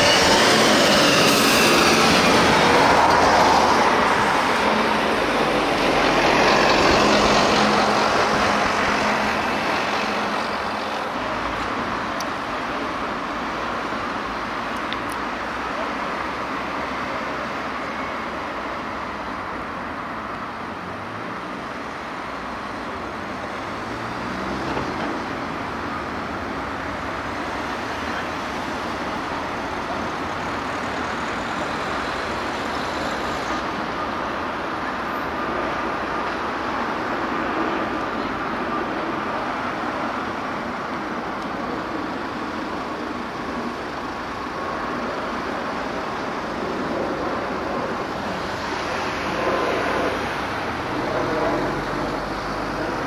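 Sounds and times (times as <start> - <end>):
jet airliner engine rush: 0.0 - 53.0.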